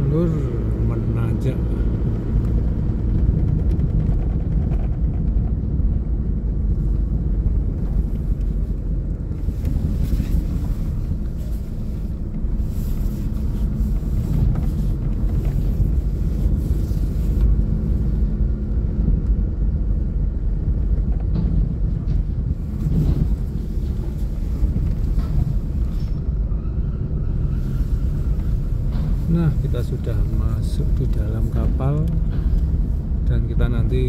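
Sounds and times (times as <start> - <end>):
car engine rumbling under load: 0.0 - 34.0.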